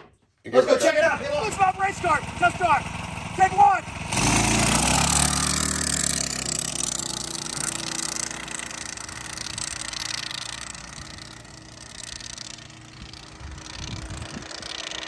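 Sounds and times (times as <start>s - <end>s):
kart engine accelerating: 1.1s - 15.0s.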